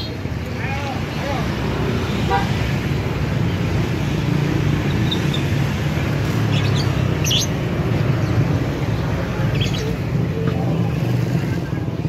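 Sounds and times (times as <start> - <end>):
low rumble of traffic: 0.0 - 12.0
songbirds chirping: 0.0 - 12.0.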